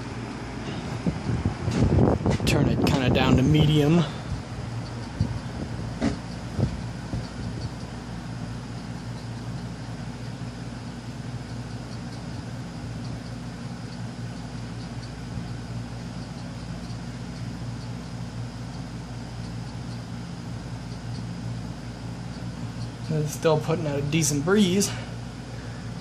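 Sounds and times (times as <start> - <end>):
ceiling fan motor hum: 0.0 - 26.0.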